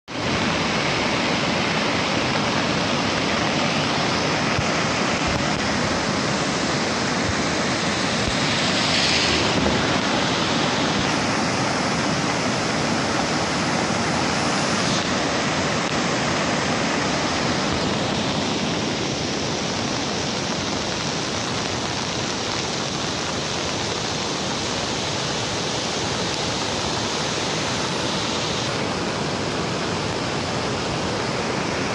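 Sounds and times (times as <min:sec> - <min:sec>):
rushing flood water: 0:00.1 - 0:31.9.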